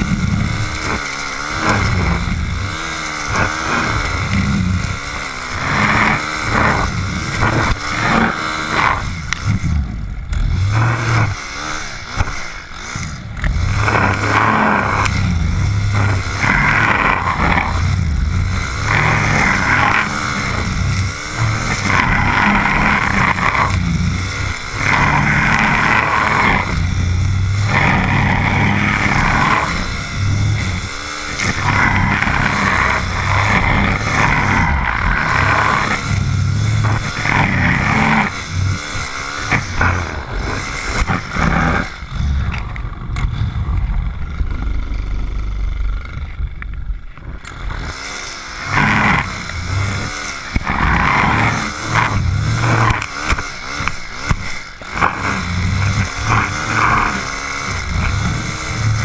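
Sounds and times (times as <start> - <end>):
brushcutter engine revving: 0.0 - 59.0.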